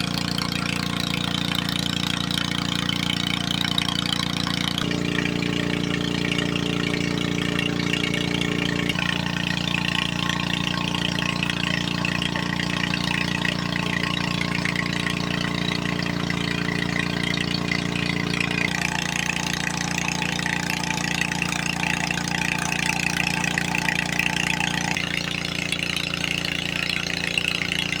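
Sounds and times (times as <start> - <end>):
small petrol engine running: 0.0 - 28.0.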